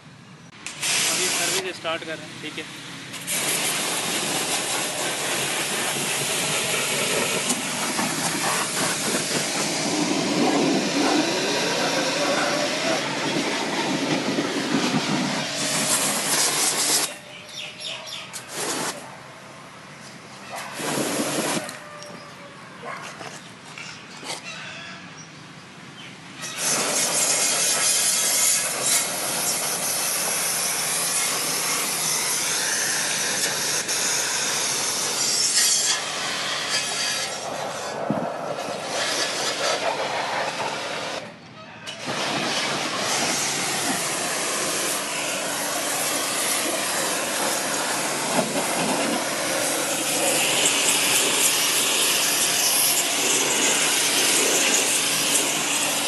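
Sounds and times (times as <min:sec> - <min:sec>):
pressure washer spraying water: 0:00.6 - 0:17.4, 0:18.1 - 0:19.1, 0:20.6 - 0:21.9, 0:26.4 - 0:41.3, 0:42.0 - 0:56.0.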